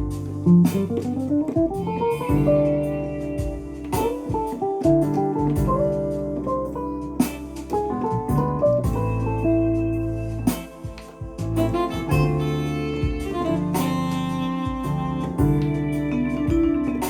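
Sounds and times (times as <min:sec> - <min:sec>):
keyboard with guitar-like lead melody: 0:00.0 - 0:17.0.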